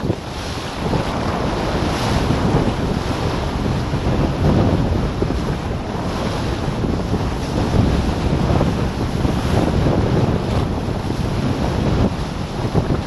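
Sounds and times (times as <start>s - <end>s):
board cutting through water: 0.0s - 13.0s
wind buffeting microphone: 0.0s - 13.0s.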